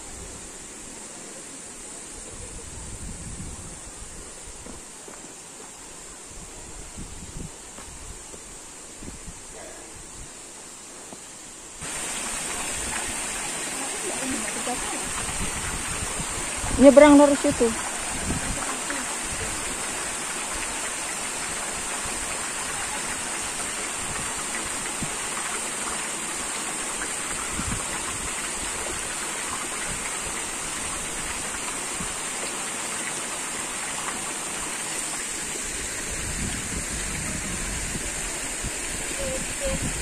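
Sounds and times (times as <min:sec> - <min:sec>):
stream water running over rocks: 0:00.0 - 0:40.0.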